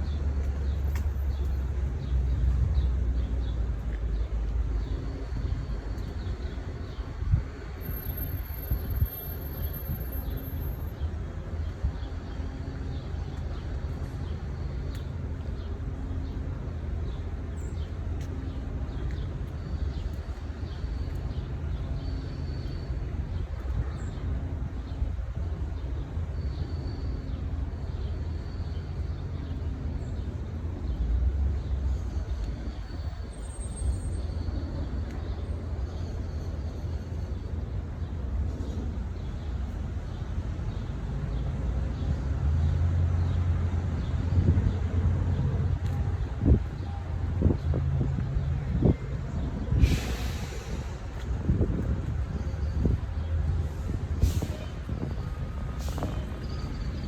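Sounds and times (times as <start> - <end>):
steady low rumble: 0.0 - 26.4, 37.4 - 57.0.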